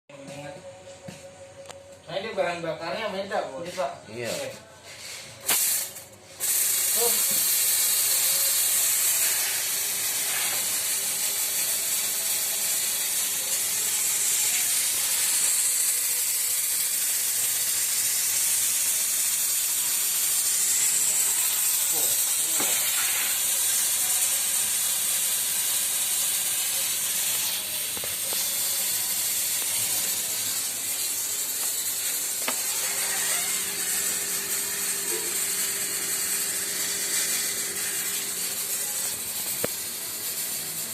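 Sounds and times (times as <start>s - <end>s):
loud steady hiss: 5.4s - 40.9s.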